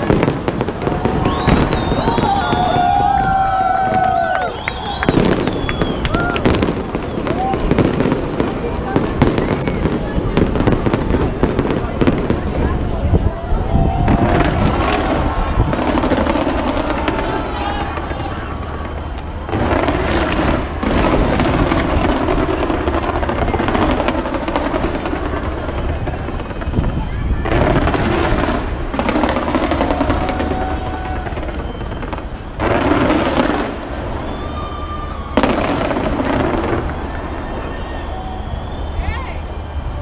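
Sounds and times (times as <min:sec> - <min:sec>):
crowd chatter: 0:00.0 - 0:40.0
fireworks exploding: 0:00.0 - 0:40.0.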